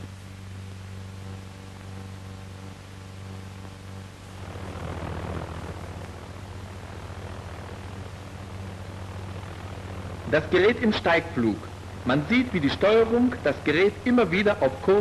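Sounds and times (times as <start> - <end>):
film soundtrack hum and hiss: 0.0 - 15.0
pulsejet buzzing: 0.0 - 15.0.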